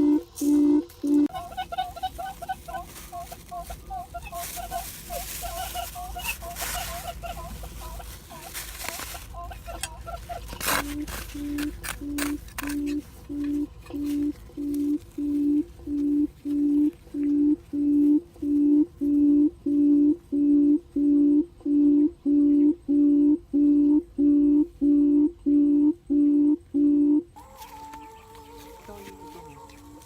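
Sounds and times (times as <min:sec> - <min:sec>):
recorded low bird hoots: 0:00.0 - 0:30.0.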